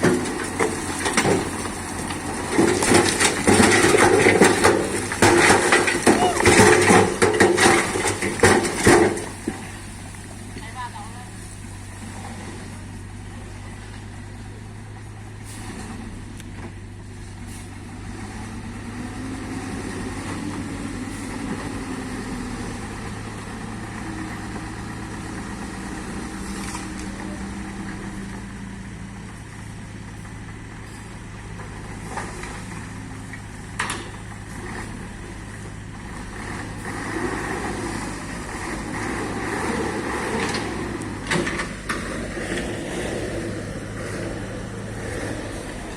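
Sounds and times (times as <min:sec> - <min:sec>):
diesel engines droning: 0:00.0 - 0:45.9.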